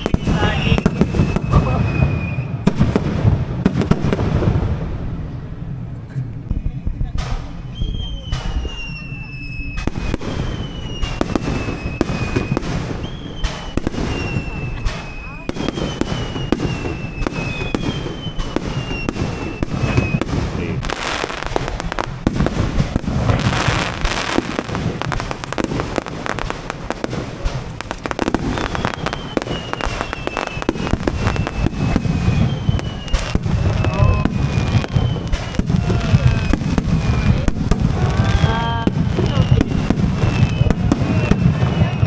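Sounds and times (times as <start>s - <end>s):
falling firework whistles: 0.0s - 3.1s, 7.2s - 42.0s
firework bangs and crackling: 0.0s - 42.0s.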